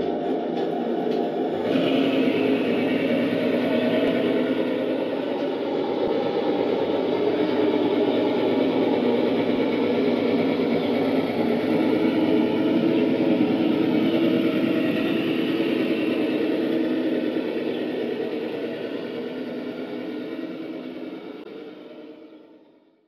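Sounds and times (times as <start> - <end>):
rc car mechanical hum: 0.0 - 22.8.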